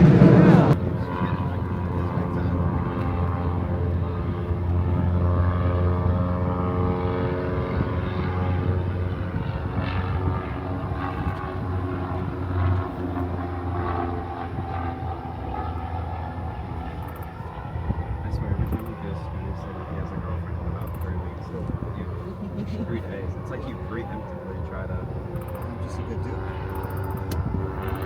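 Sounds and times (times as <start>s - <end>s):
propeller airplane engine droning: 0.0s - 28.0s.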